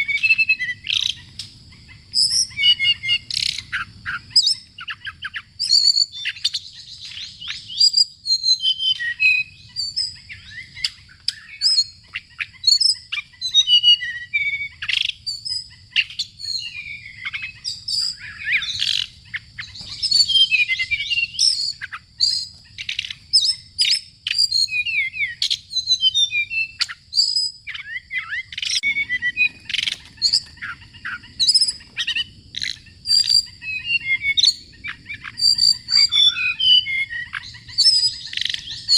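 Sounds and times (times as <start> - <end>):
bird chirping and trilling: 0.0 - 38.9.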